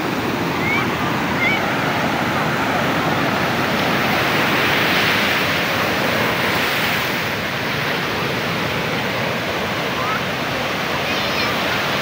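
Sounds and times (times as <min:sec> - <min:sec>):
surf washing up a sandy beach: 0:00.0 - 0:12.0.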